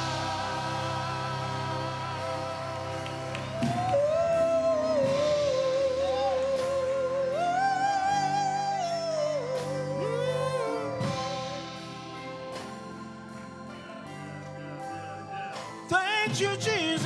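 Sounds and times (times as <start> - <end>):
solo gospel singing: 0.0 - 14.9, 15.6 - 17.0
sustained accompanying chords: 0.0 - 16.3.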